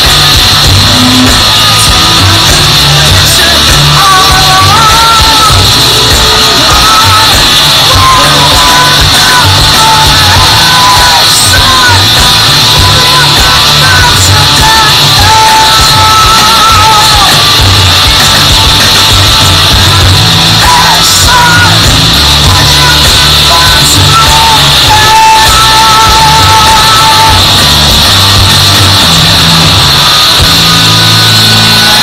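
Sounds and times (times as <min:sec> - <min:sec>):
person singing: 0:00.0 - 0:29.6
rock band playing live: 0:00.0 - 0:32.0.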